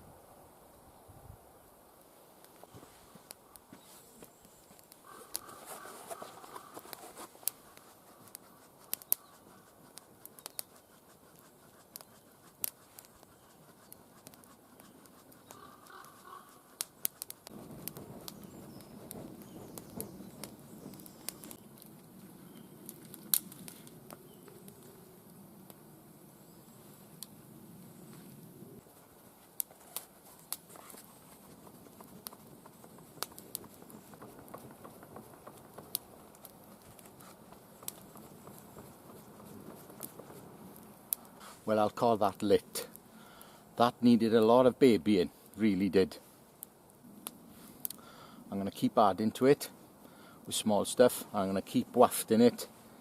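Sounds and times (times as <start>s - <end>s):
campfire crackling and popping: 2.0s - 53.0s.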